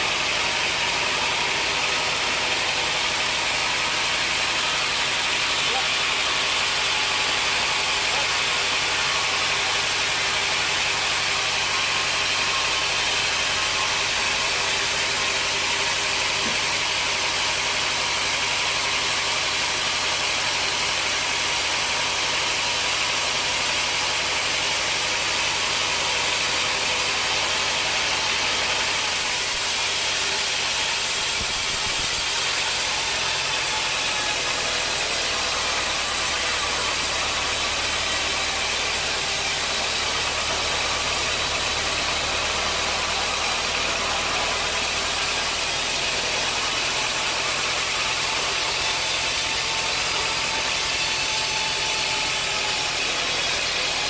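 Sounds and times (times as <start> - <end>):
sawmill machinery hum and hiss: 0.0 - 54.0.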